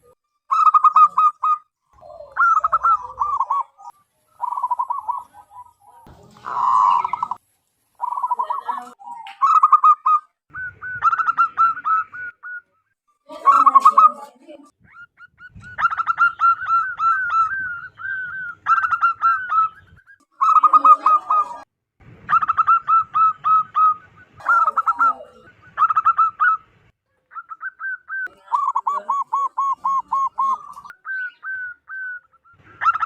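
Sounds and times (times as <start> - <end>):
dove cooing staccato notes: 0.0 - 7.4, 8.0 - 12.8, 13.4 - 21.7, 22.3 - 33.0.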